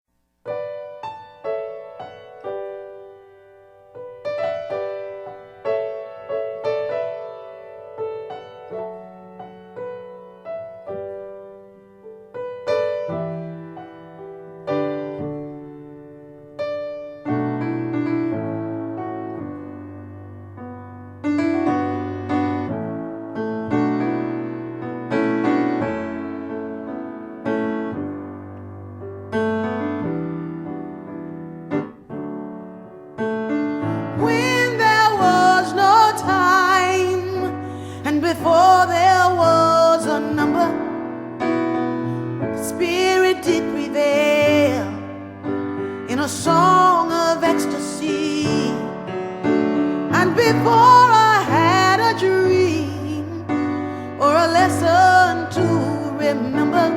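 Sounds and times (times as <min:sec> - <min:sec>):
slow piano music: 0:00.4 - 0:56.9.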